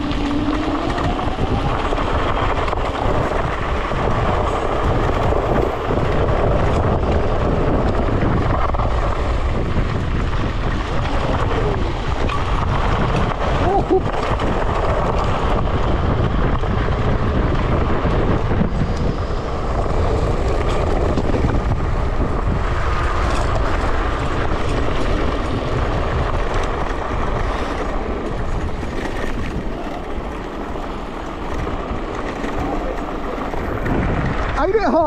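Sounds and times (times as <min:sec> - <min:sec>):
tyres rumbling over ground: 0:00.0 - 0:35.0
wind rushing over microphone: 0:00.0 - 0:35.0.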